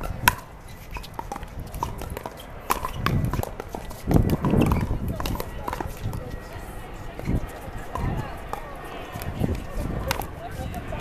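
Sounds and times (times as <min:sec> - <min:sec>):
paddle hitting pickleball: 0:00.0 - 0:06.2, 0:07.2 - 0:10.3.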